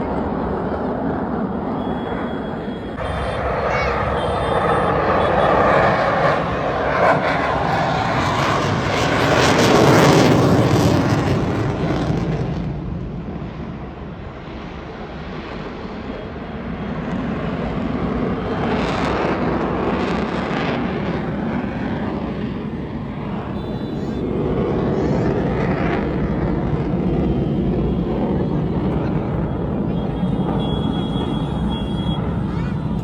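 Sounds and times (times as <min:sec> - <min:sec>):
aircraft engine rush: 0:00.0 - 0:33.0.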